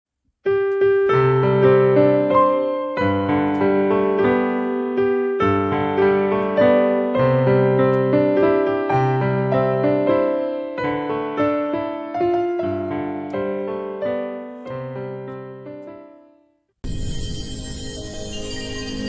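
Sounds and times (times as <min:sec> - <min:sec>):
gentle piano music: 0:00.5 - 0:16.6.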